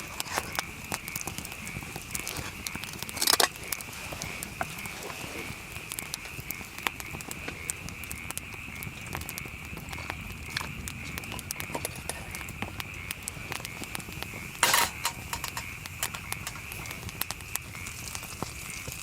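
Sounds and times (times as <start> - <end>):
campfire crackling: 0.0 - 19.0
fire hissing burst: 0.0 - 19.0.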